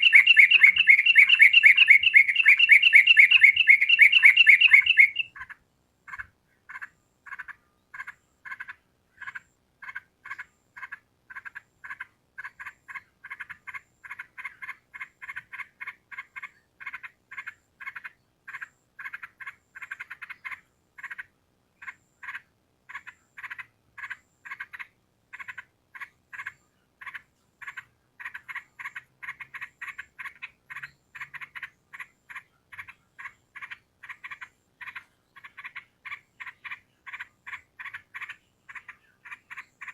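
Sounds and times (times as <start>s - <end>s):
short repeated animal calls: 0.0s - 39.9s.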